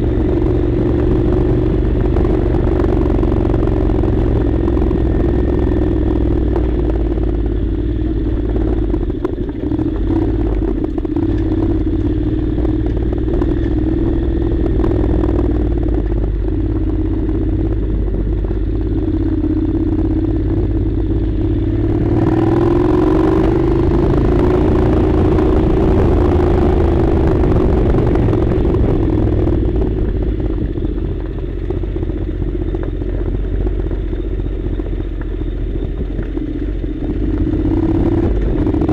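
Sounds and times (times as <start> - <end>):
clatter: 0.0 - 38.9
motorcycle engine running: 0.0 - 38.9.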